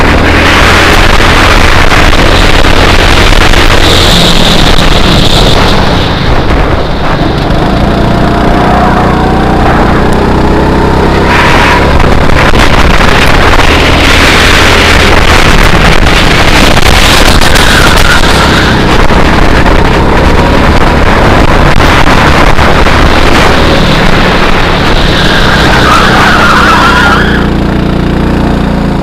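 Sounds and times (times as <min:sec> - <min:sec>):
go-kart engine running hard: 0:00.0 - 0:29.0.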